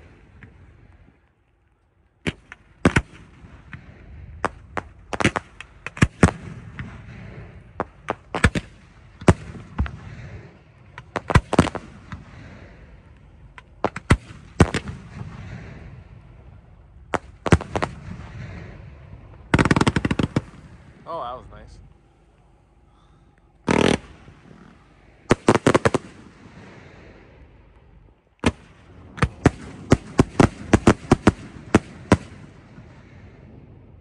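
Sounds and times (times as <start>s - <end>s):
fireworks bangs: 2.2s - 21.8s, 23.6s - 33.9s.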